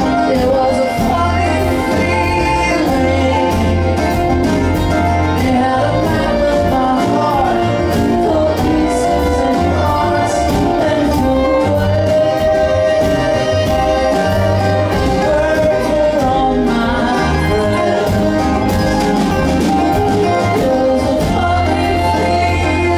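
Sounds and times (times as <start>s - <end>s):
acoustic guitar: 0.0s - 22.9s
banjo: 0.0s - 22.9s
mandolin: 0.0s - 22.9s
upright bass: 0.0s - 22.9s.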